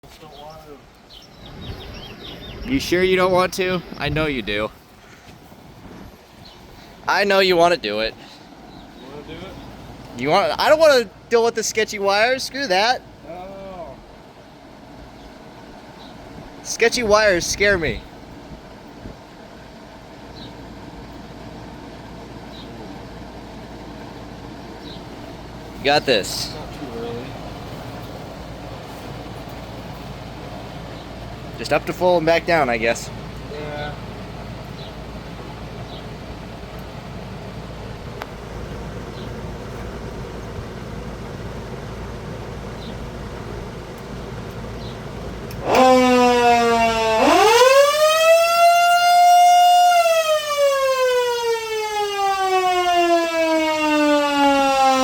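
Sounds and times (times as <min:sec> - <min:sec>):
low outdoor rumble: 0:00.0 - 0:50.7.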